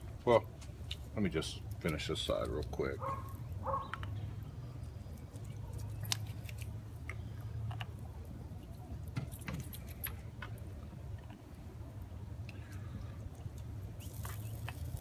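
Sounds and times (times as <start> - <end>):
small clicks and crackles: 0.6 - 11.6, 12.4 - 15.0.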